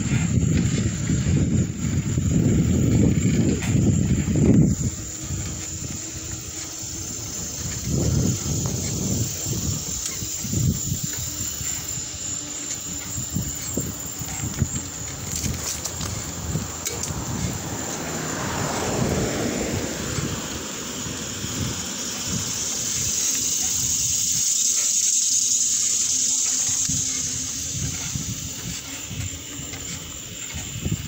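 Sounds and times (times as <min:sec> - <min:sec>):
tyre noise on asphalt: 0:00.0 - 0:31.0
wind rushing over microphone: 0:00.0 - 0:31.0.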